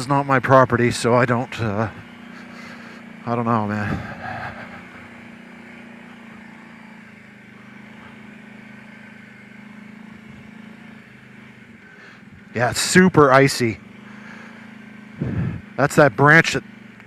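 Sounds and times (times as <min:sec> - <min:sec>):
atv engine running steadily: 0:00.0 - 0:17.0.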